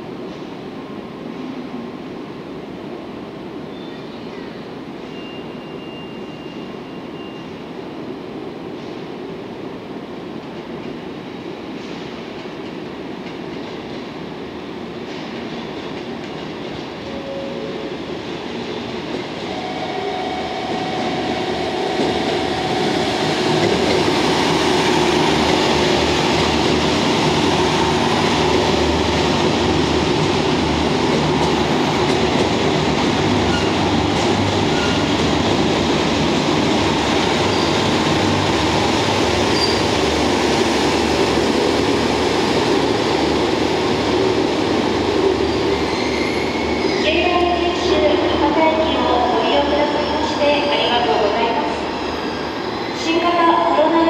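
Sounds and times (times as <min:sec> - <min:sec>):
diesel train passing: 0:04.3 - 0:54.0.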